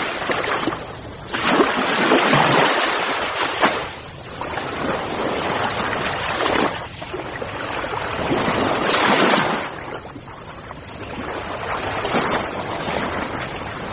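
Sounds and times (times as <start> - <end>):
sea waves surging: 0.0 - 13.9.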